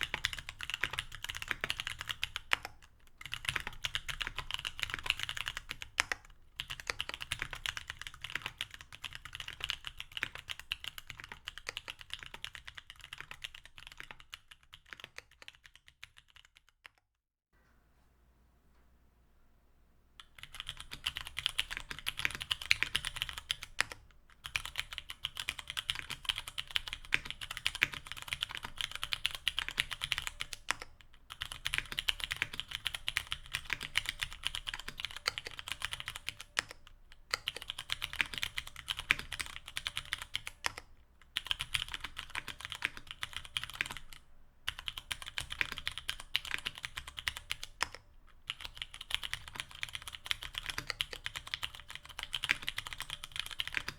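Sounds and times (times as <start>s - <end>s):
mechanical keyboard typing: 0.0s - 16.5s, 20.2s - 53.9s.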